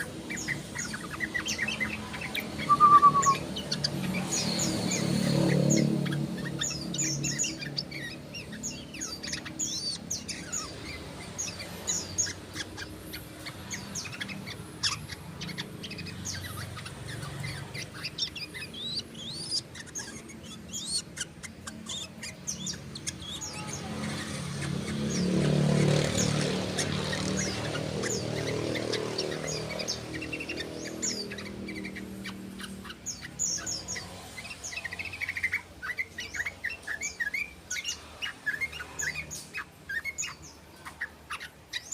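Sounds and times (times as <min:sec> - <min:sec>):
bird chirping song: 0:00.0 - 0:41.9.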